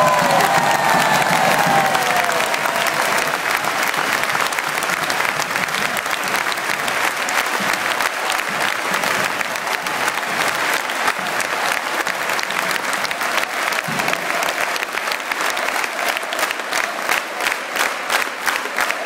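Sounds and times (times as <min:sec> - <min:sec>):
stadium crowd applauding: 0:00.0 - 0:19.0.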